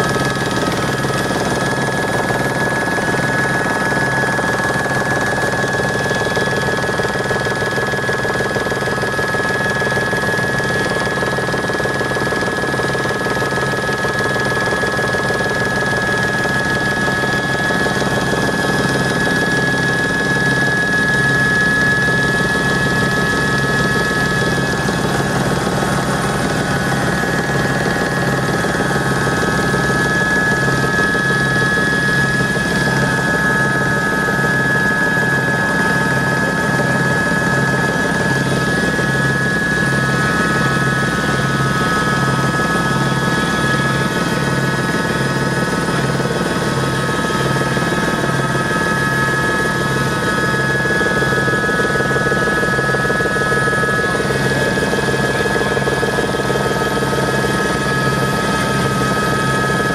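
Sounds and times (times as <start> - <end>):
helicopter rotor beat: 0.0 - 59.9
helicopter turbine whine: 0.0 - 59.9.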